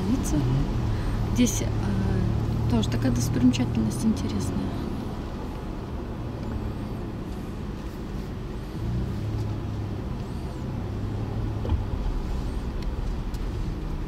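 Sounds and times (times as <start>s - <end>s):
car engine hum: 0.0s - 14.0s
road noise: 0.0s - 14.0s.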